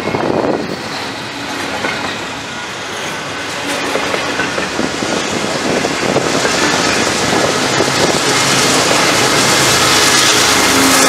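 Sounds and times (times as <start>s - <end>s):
freight train rumble and rattle: 0.0s - 11.0s
locomotive engine drone: 0.0s - 11.0s.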